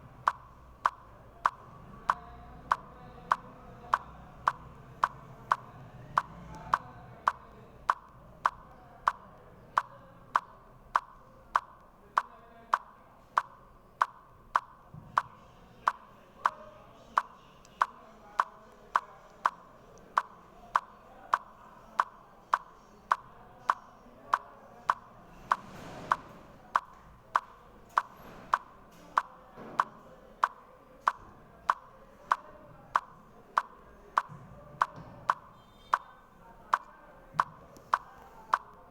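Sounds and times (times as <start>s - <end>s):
steady sharp ticking: 0.0s - 36.1s, 36.7s - 38.9s.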